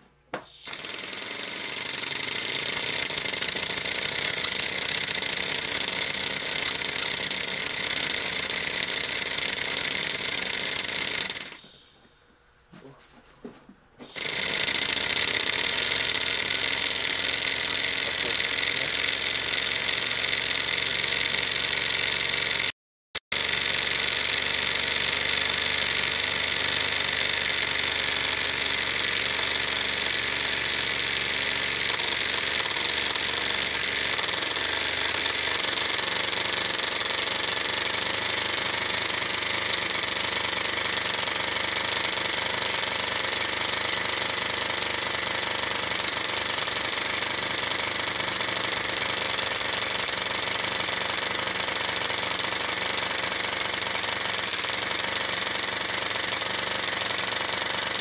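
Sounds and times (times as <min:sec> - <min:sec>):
steam engine running: 0:00.5 - 0:11.7, 0:14.1 - 0:22.7, 0:23.3 - 0:58.0.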